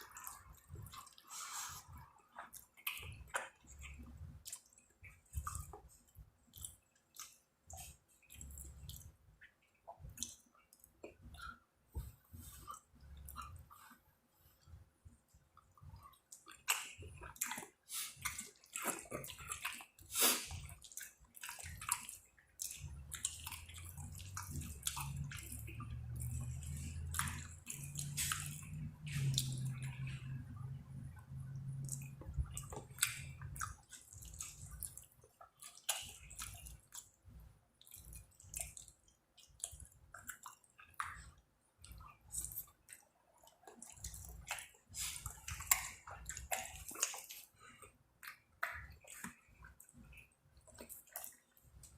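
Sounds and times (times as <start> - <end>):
person chewing and slurping: 0.0 - 9.2, 15.3 - 37.2, 37.8 - 51.9.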